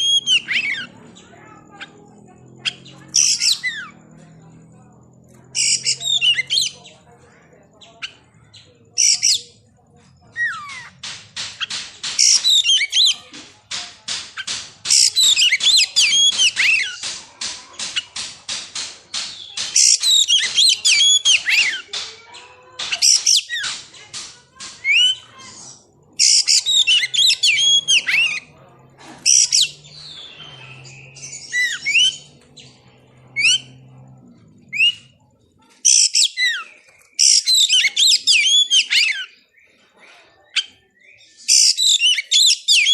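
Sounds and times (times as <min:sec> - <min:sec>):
bird singing whistles and chatter: 0:00.0 - 0:09.7, 0:10.3 - 0:18.3, 0:19.1 - 0:35.2, 0:35.8 - 0:39.8, 0:40.4 - 0:42.9.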